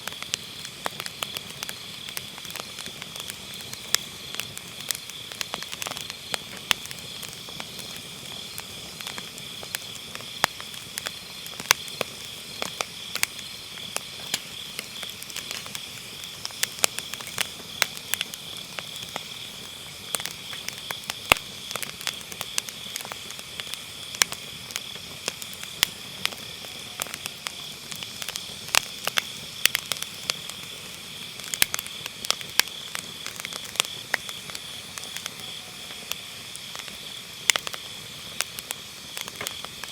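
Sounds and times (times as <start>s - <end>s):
fire crackling and popping: 0.0s - 39.9s
insects trilling: 0.0s - 39.9s.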